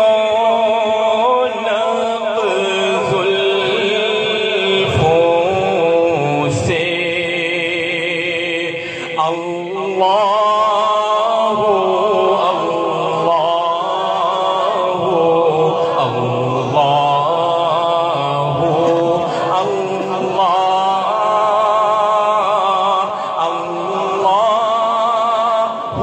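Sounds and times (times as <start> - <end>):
man chanting through loudspeakers: 0.0 - 26.0.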